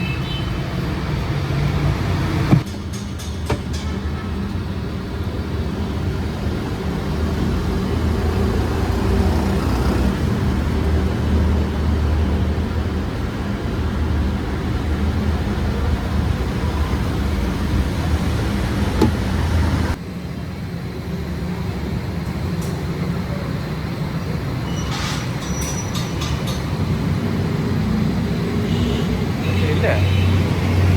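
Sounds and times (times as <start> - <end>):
workshop machinery humming: 0.0 - 30.9.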